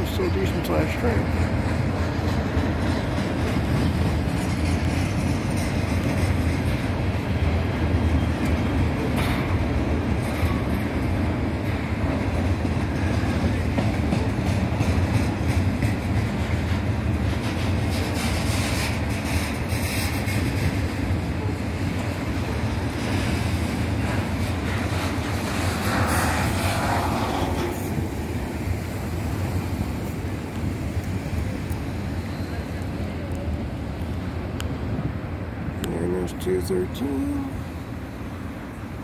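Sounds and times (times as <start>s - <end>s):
freight train wheels on rails: 0.0s - 39.0s
sharp train clatters: 0.0s - 39.0s.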